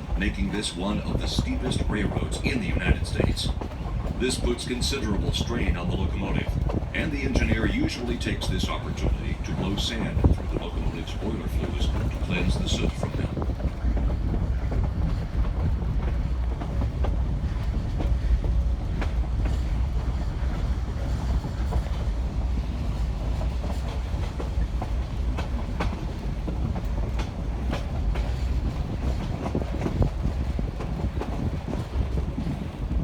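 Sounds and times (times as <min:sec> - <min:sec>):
train rumbling on track: 0:00.0 - 0:33.0
train wheels clicking over rails: 0:00.0 - 0:33.0.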